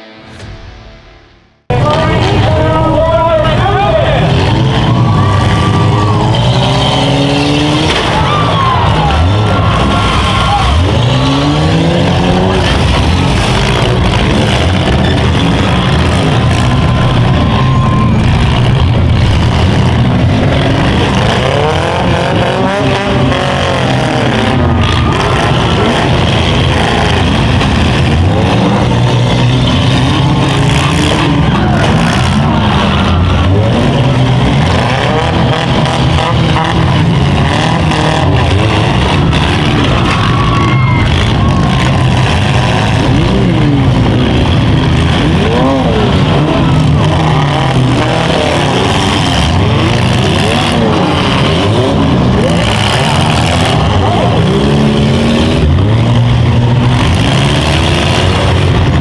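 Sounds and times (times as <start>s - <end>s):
car engines revving hard: 1.7s - 59.0s.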